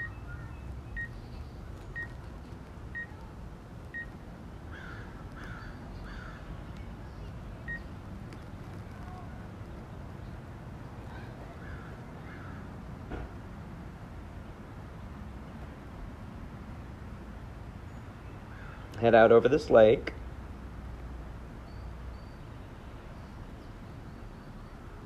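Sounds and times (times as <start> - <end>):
low steady background noise: 0.0 - 25.0.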